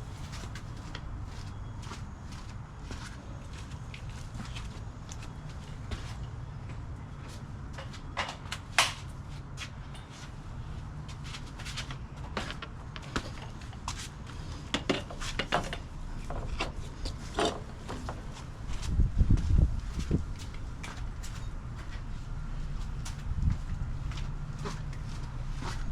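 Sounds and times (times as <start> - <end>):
low steady hum: 0.0 - 7.8, 12.0 - 25.9.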